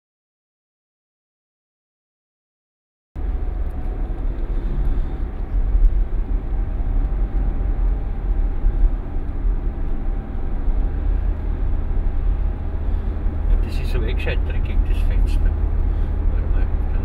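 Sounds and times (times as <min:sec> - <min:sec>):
car engine and road rumble: 0:03.2 - 0:17.0.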